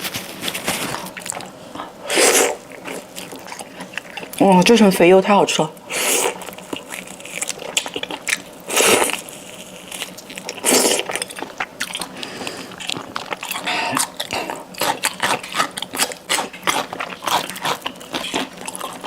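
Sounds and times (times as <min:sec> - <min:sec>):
chewing meat: 0:00.3 - 0:05.1, 0:05.8 - 0:19.0.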